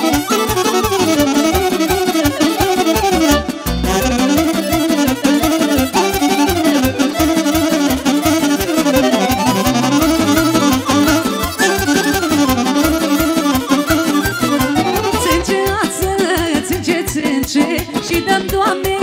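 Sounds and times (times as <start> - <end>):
band playing folk dance music: 0.0 - 19.0.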